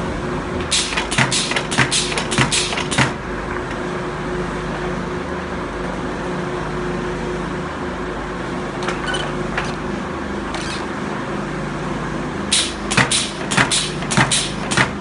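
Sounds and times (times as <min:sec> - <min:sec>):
machine hum with steady tone: 0:00.0 - 0:15.0.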